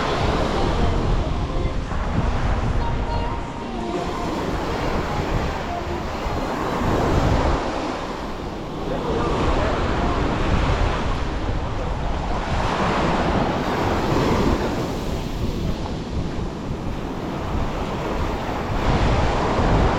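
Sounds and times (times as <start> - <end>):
sea waves breaking on beach: 0.0 - 19.9
wind rumbling on microphone: 0.0 - 19.9.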